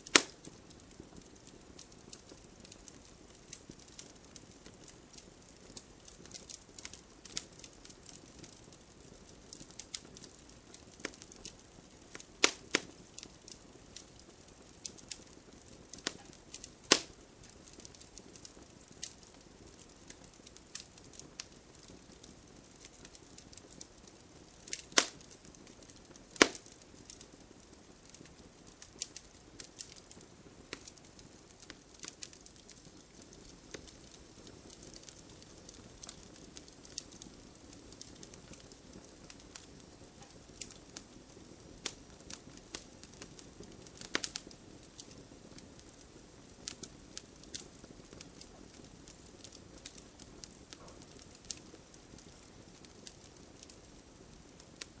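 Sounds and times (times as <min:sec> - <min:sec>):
faint steady hiss: 0:00.0 - 0:55.0
wood fire crackling: 0:00.0 - 0:55.0.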